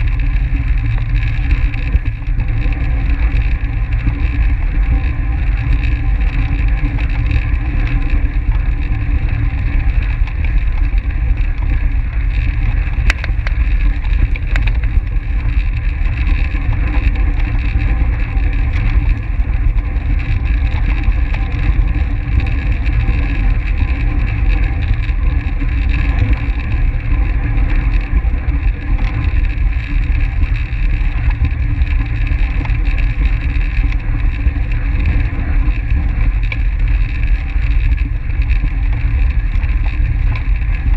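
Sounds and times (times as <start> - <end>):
wind rumbling over microphone: 0.0 - 40.9.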